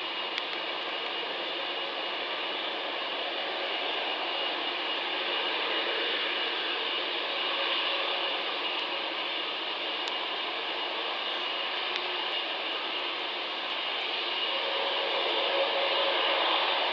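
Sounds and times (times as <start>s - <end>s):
distant jet engines roaring: 0.0s - 16.9s.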